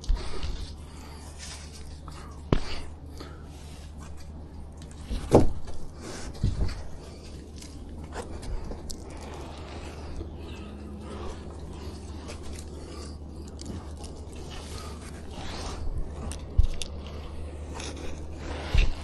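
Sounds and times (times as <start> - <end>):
knocks and scuffs of climbing: 0.0 - 19.0
steady low hum: 0.0 - 19.0.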